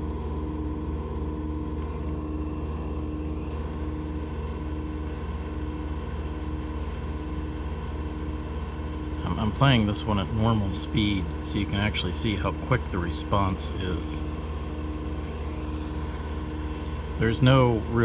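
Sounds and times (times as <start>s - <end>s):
engine running at full throttle: 1.8s - 18.0s.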